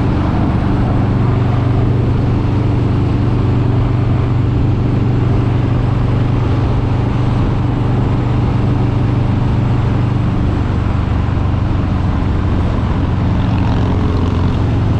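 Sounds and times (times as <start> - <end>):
motorcycle engine running steadily: 0.0 - 14.9.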